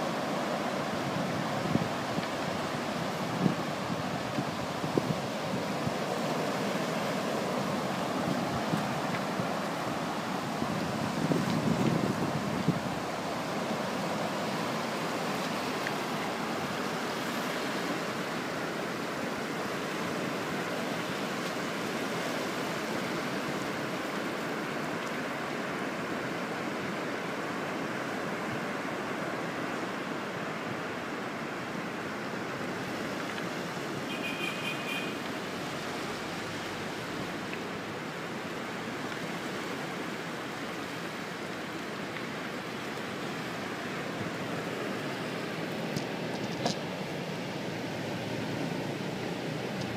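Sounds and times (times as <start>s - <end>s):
surf on pebble beach: 0.0s - 49.9s.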